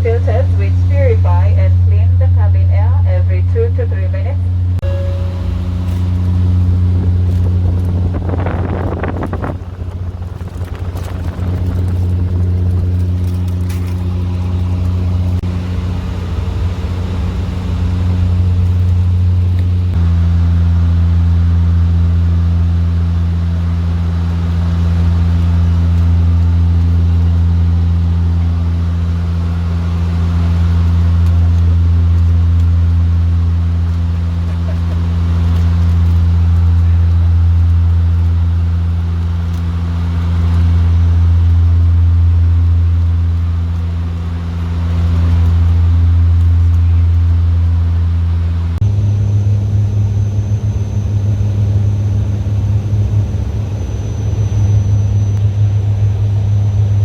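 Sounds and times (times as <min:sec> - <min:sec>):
engine droning: 0:00.0 - 0:57.0.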